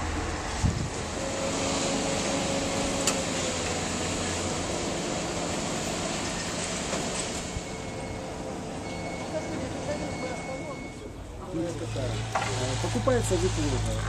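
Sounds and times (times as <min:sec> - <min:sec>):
heavy machinery humming: 0:00.0 - 0:14.0.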